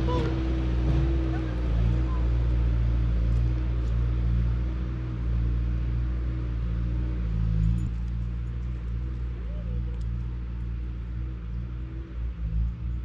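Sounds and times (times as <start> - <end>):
engine droning hum: 0.0 - 13.0.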